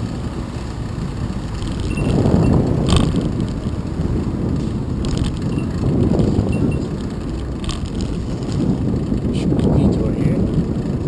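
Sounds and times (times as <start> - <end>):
bike tyre rumble on pavement: 0.0 - 11.0
wind buffeting microphone: 0.0 - 11.0.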